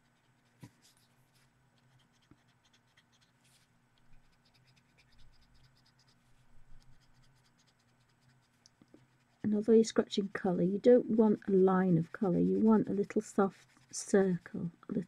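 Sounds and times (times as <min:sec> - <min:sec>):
pencil scratching on paper: 0:01.8 - 0:14.8.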